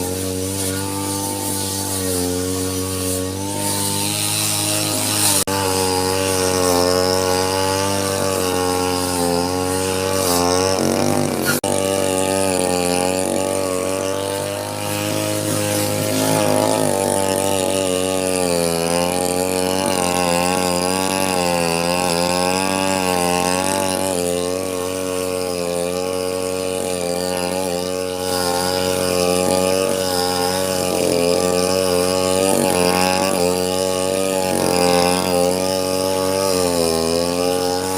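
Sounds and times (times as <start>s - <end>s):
brush cutter cutting grass: 0.0s - 37.9s.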